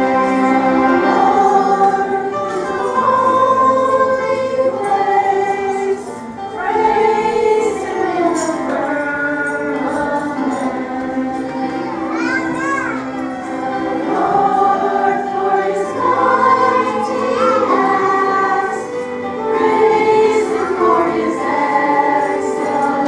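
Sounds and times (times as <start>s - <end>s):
choir singing praise song: 0.0s - 23.0s
instrumental accompaniment: 0.0s - 23.0s.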